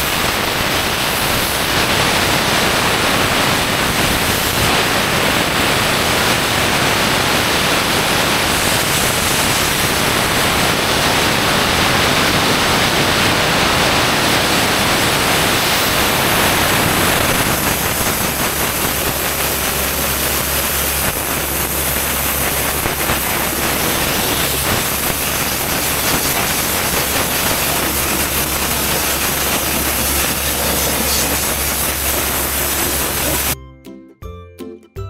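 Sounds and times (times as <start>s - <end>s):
loud steady hissing: 0.0s - 33.6s
low mechanical hum: 0.0s - 33.6s.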